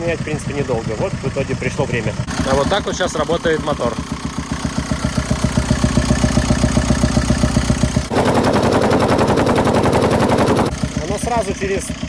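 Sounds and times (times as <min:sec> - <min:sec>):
diesel engine idling with clatter: 0:00.0 - 0:12.0.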